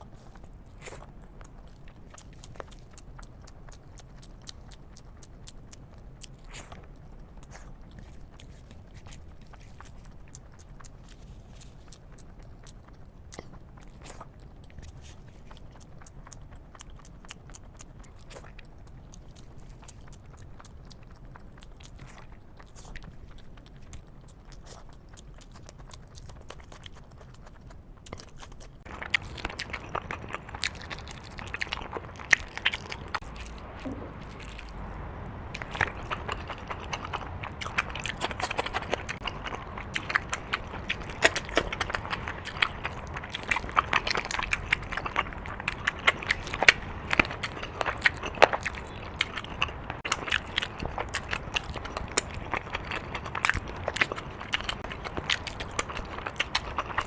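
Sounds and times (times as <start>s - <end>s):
close chewing and eating: 0.0s - 57.0s.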